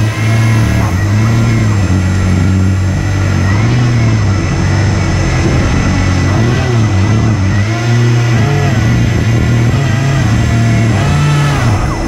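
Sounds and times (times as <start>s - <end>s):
electric fans whining: 0.0s - 12.0s.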